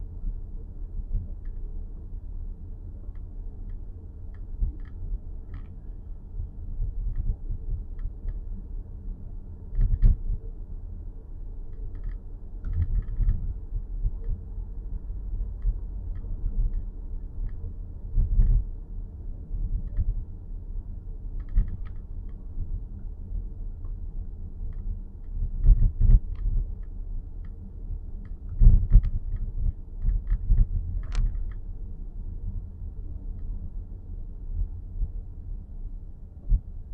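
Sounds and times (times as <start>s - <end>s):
low cabin rumble: 0.0s - 36.9s.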